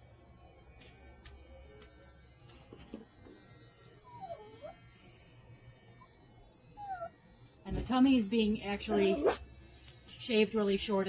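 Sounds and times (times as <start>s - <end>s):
pet clipper humming: 0.0s - 11.0s.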